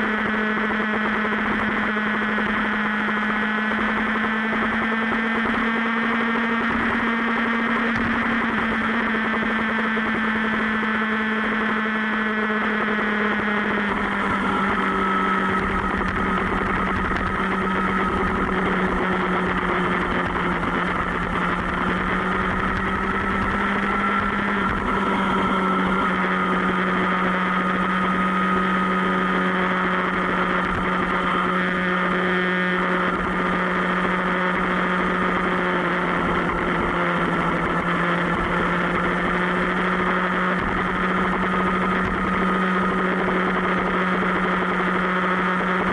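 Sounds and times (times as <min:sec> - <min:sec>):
motorbike engine running: 0:00.0 - 0:45.9.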